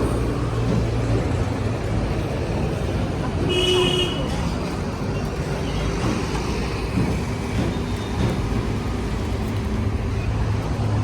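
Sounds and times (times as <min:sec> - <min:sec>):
road traffic noise: 0:00.0 - 0:11.0
vehicle engine humming: 0:00.0 - 0:11.0.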